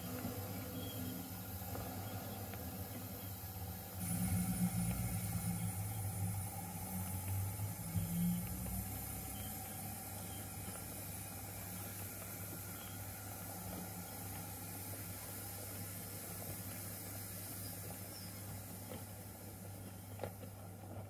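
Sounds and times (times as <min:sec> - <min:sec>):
low steady hum with hiss: 0:00.0 - 0:21.0
model train running: 0:00.0 - 0:21.0.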